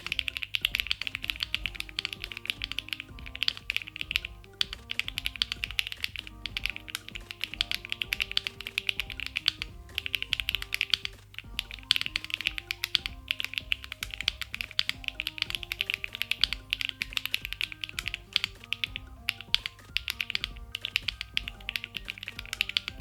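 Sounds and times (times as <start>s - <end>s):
background music: 0.0s - 23.0s
mechanical keyboard typing: 0.0s - 23.0s.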